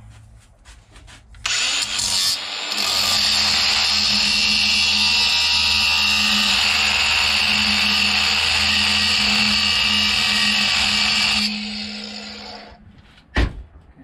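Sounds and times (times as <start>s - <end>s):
angle grinder grinding metal: 1.4s - 12.8s
grinder motor hum: 1.4s - 12.8s.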